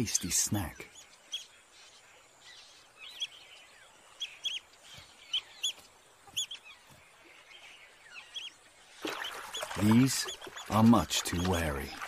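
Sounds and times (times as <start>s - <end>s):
otters chirping: 0.0s - 12.0s.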